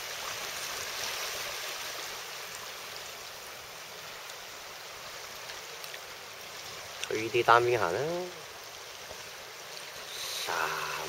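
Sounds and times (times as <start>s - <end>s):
water on open bay: 0.0s - 11.0s.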